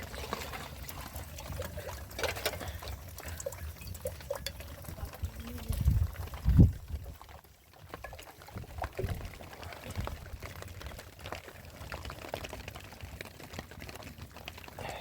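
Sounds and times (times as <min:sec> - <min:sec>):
water pouring and splashing: 0:00.0 - 0:15.0.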